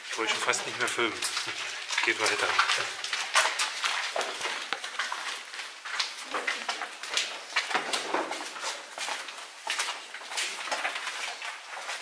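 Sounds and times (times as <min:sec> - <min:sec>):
footsteps in corridor: 0:00.0 - 0:12.0.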